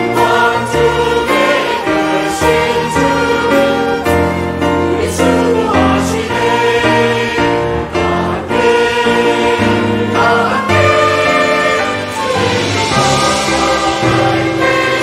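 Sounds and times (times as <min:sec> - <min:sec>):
cello: 0:00.0 - 0:15.0
keyboard: 0:00.0 - 0:15.0
mixed choir singing: 0:00.0 - 0:15.0
violin: 0:00.0 - 0:15.0.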